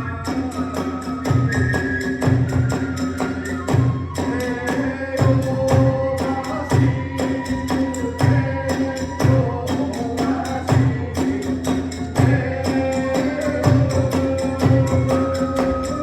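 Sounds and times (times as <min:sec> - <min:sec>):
bamboo flute long notes: 0:00.0 - 0:11.2, 0:12.2 - 0:16.0.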